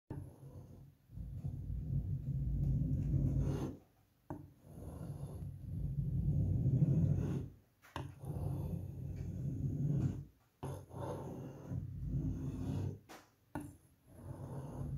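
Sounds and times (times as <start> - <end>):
blade scraping painted plasterboard: 0.1 - 14.9.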